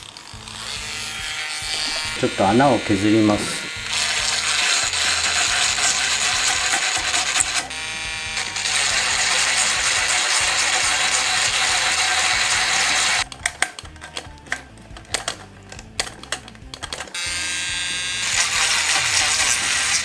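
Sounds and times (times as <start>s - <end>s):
rotary tool grinding metal: 0.0s - 13.3s, 14.9s - 20.0s.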